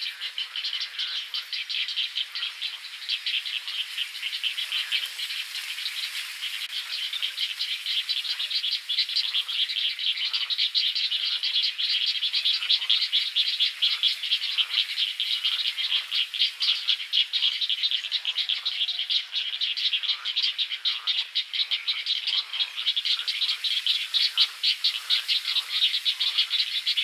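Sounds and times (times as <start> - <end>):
bird chicks ticking begging calls: 0.0 - 27.0.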